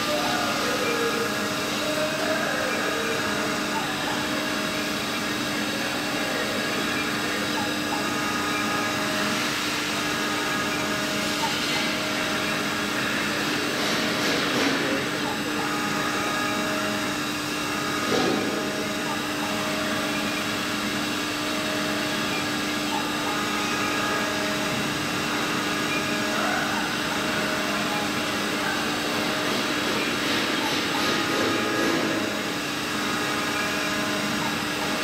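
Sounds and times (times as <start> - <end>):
milling machine spindle whine: 0.0 - 35.0.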